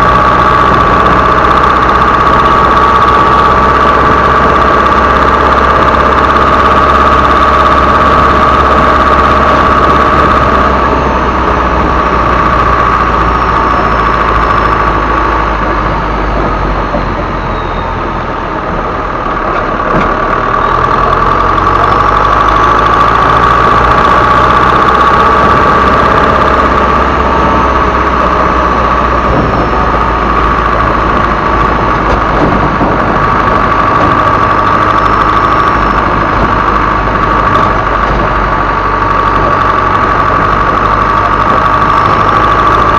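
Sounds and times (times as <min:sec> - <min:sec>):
diesel truck engine rumbling: 0:00.0 - 0:42.9.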